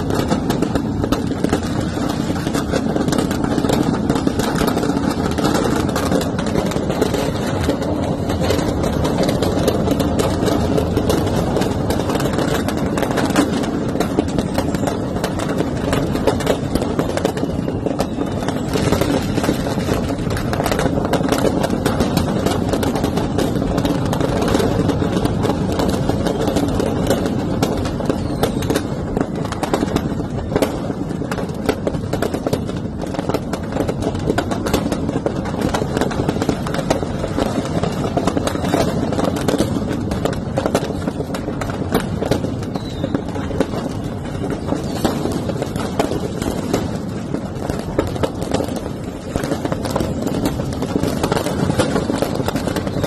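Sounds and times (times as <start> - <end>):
fire blazing: 0.0 - 53.0
firecrackers crackling: 0.0 - 53.0.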